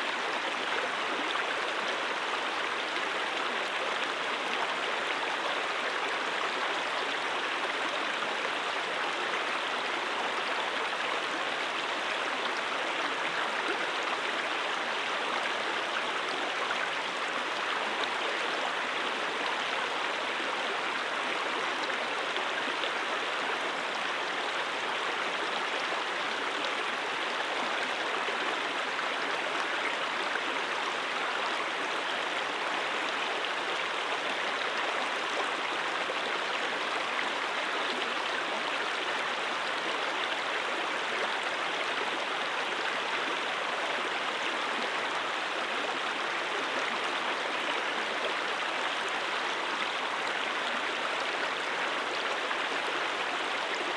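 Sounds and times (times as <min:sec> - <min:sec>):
brook flowing: 0:00.0 - 0:53.9.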